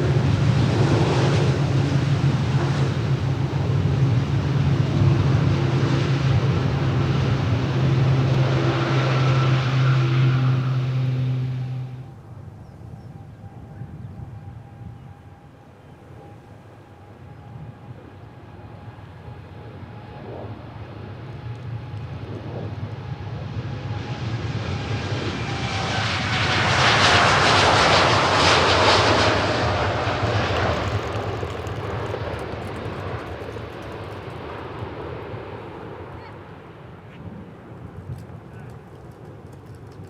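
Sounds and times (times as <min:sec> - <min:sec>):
faint whine dropping in pitch: 0:00.0 - 0:16.5, 0:17.1 - 0:35.0
airliner engines passing: 0:00.0 - 0:40.0.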